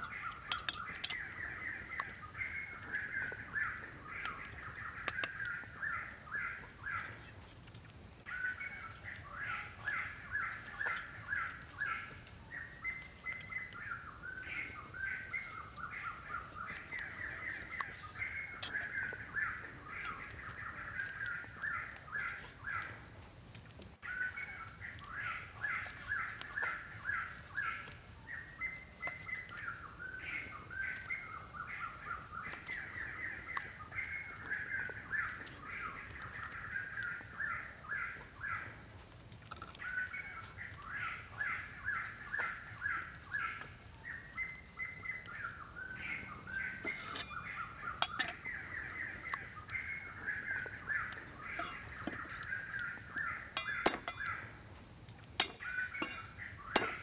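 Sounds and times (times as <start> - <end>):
birds calling: 0.0 - 7.4, 8.2 - 23.1, 24.0 - 38.9, 39.5 - 57.0.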